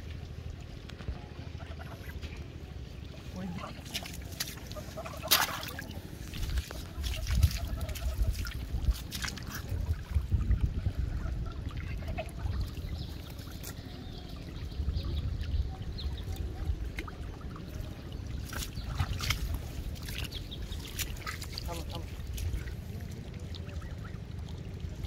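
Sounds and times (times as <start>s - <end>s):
low uneven rumble: 0.0s - 25.0s.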